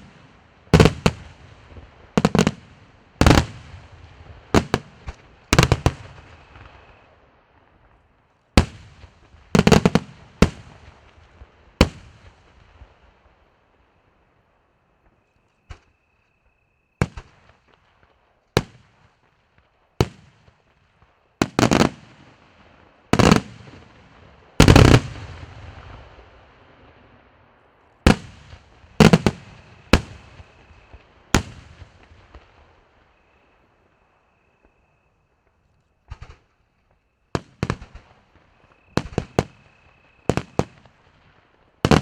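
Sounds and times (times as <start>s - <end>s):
fireworks bangs: 0.0s - 7.1s, 8.6s - 13.0s, 17.0s - 19.3s, 20.0s - 27.4s, 28.0s - 34.8s, 36.0s - 42.0s.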